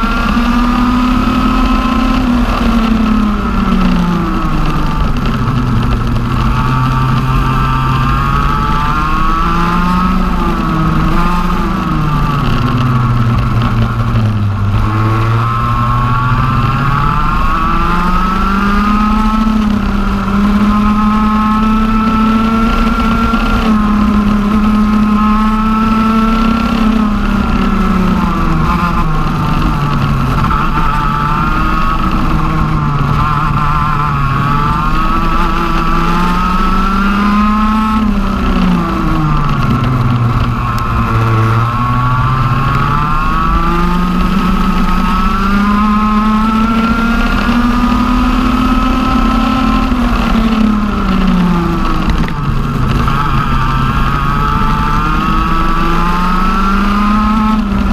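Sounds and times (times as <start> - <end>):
kart engine revving: 0.0 - 57.9.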